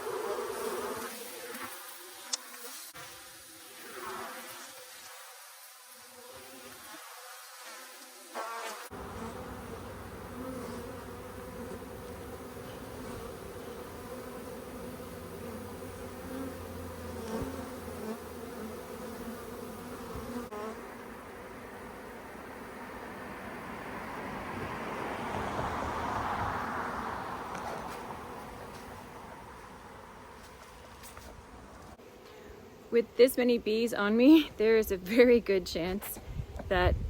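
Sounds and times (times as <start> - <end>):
bee swarm buzzing: 0.0 - 35.9.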